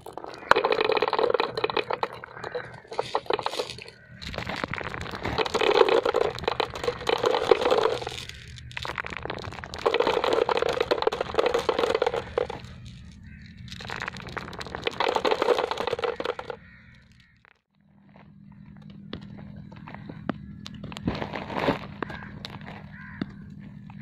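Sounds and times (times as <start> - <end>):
marbles rolling on dirt: 0.0 - 24.0.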